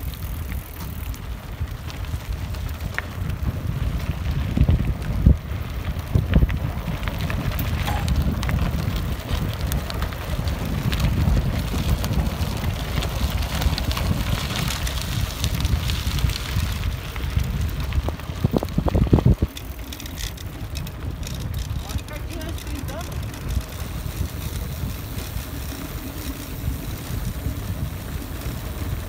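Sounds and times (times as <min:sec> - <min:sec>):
bicycle jolts: 0:00.0 - 0:29.0
tyres rolling on dirt road: 0:00.0 - 0:29.0
wind buffeting microphone: 0:00.0 - 0:29.0.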